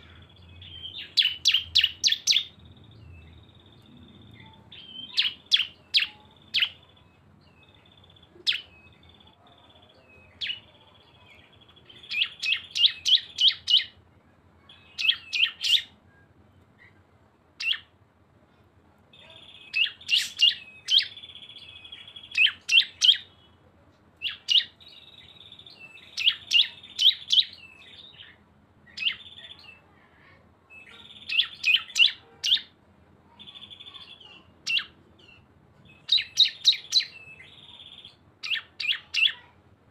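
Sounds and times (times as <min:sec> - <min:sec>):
songbirds singing sharp high notes: 0:00.0 - 0:18.0, 0:19.1 - 0:29.9, 0:30.6 - 0:39.6.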